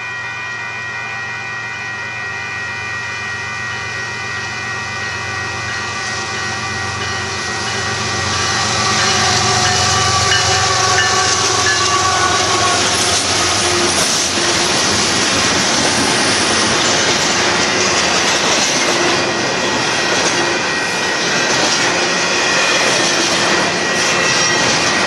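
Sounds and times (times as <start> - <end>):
freight train rolling past: 0.0 - 25.0.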